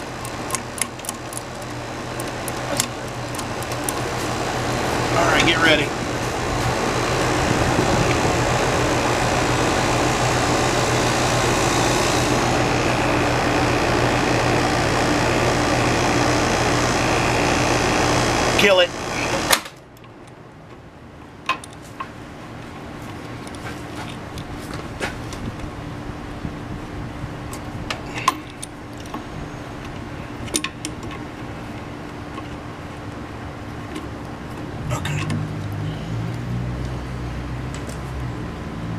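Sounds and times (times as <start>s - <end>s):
compressor hum: 0.0s - 38.9s
condenser fan rushing: 0.0s - 38.9s.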